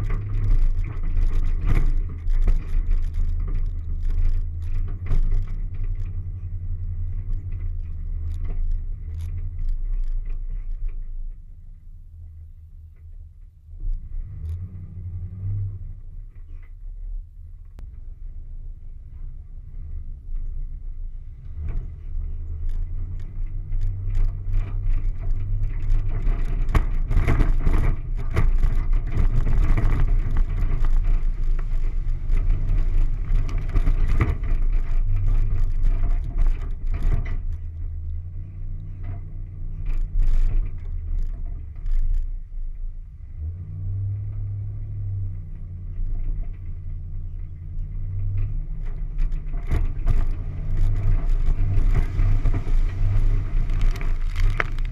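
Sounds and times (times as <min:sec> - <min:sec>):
knocks and rough ground noise: 0:00.0 - 0:54.9
off-road vehicle engine at low revs: 0:00.0 - 0:54.9.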